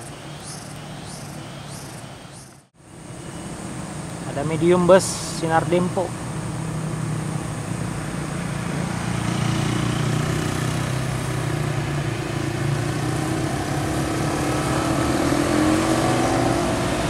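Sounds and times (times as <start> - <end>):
motorcycles passing: 0.0 - 17.0.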